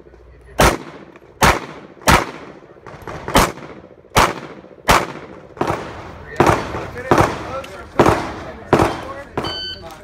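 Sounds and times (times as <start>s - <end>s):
pistol shots with echo: 0.6s - 9.6s.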